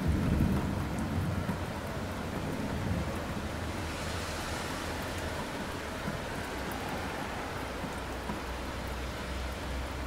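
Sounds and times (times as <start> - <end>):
rain on pavement: 0.0 - 10.0.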